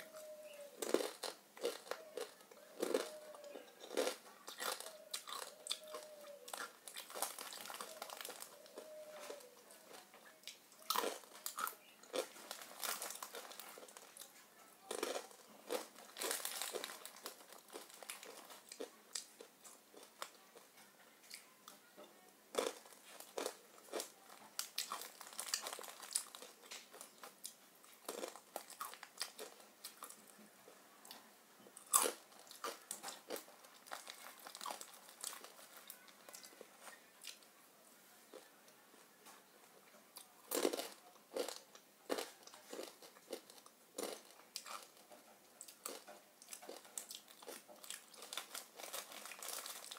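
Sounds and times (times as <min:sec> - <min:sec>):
crackling and rustling: 0:00.0 - 0:49.9.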